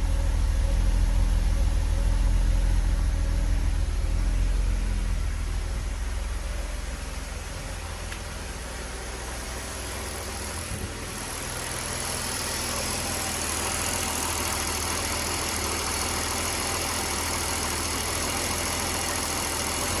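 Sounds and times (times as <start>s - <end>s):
car engine running with misfire: 0.0s - 20.0s.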